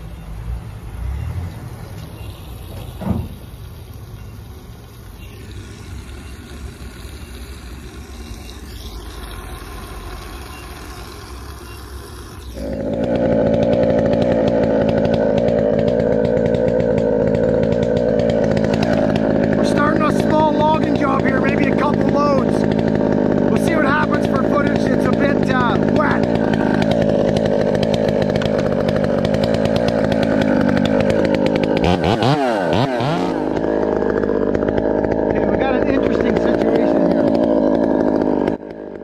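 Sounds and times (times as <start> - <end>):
two-stroke chainsaw running: 1.0 - 39.0.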